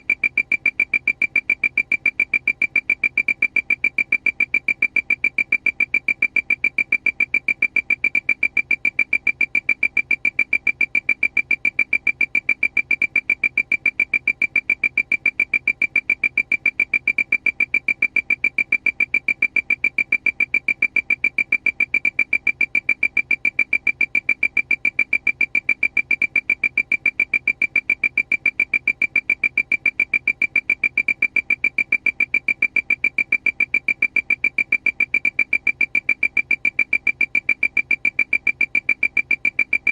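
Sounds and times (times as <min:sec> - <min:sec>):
rapid high-pitched alarm beeps: 0:00.0 - 0:39.9.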